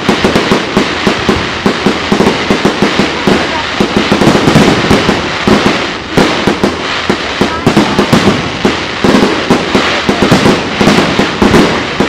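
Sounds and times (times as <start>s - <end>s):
firework shells bursting: 0.0s - 12.0s
fireworks crackling: 0.0s - 12.0s.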